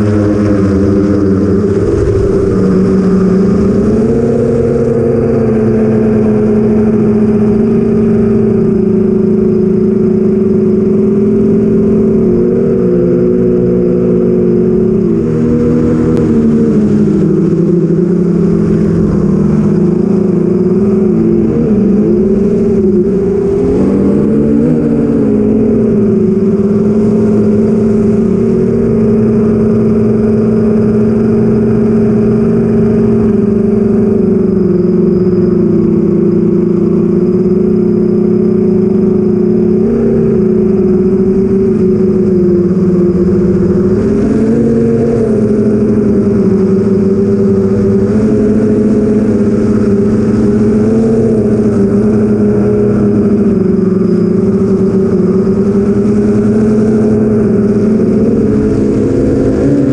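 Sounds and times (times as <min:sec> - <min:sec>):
quadcopter motors humming: 0:00.0 - 0:59.9.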